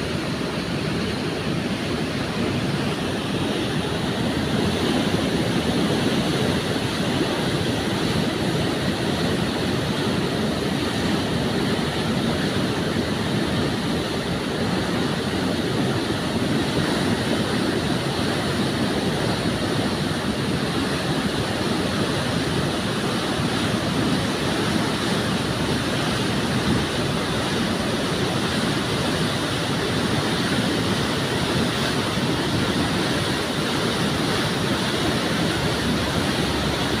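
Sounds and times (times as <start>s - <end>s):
river rushing: 0.0s - 37.0s.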